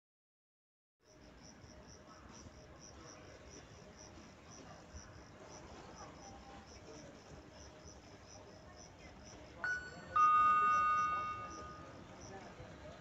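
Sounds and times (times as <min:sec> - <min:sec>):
faint insect chirping: 0:01.0 - 0:12.5.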